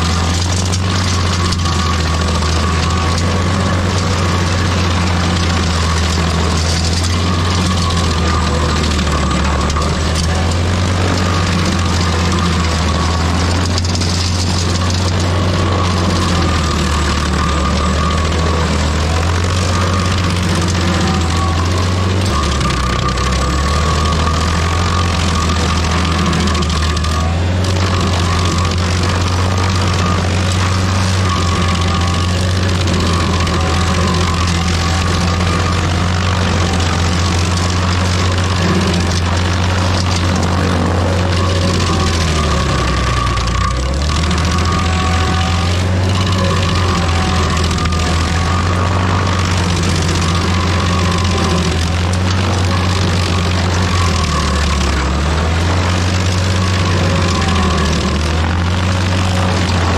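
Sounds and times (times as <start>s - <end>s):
stump grinder engine drone: 0.0s - 59.9s.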